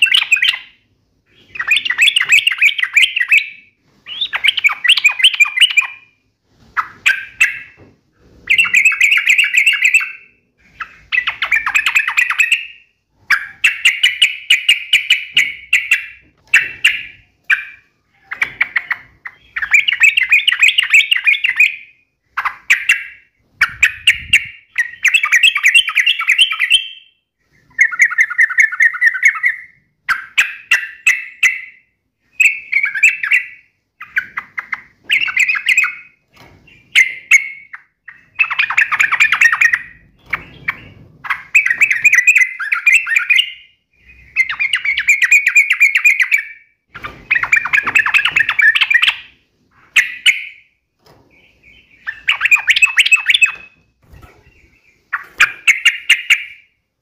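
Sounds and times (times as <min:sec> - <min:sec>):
bird chattering song: 0:00.0 - 0:06.2, 0:06.8 - 0:07.8, 0:08.4 - 0:56.8.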